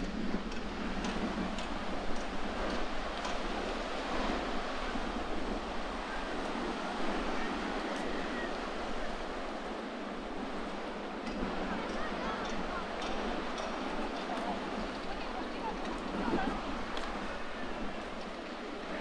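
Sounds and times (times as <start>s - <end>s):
sea waves washing on shore: 0.0s - 19.0s
wind gusting on microphone: 0.0s - 19.0s.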